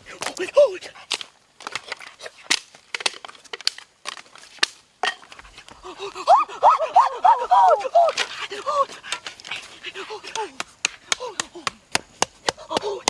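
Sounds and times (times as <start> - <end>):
crunches and sharp cracks: 0.0 - 13.0.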